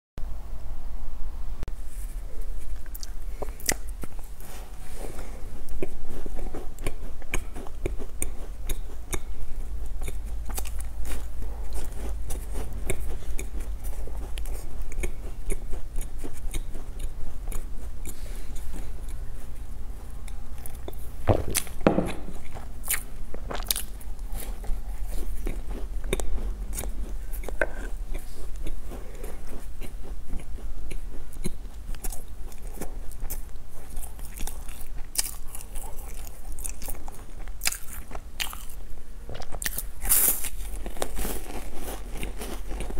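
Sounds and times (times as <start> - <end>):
crunchy chewing of biscuit: 1.8 - 42.9.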